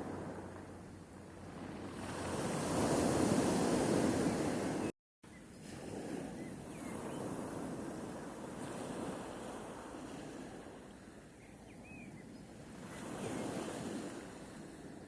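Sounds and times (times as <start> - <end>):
sea waves breaking on shore: 0.0 - 4.9, 5.5 - 11.3, 12.5 - 15.0.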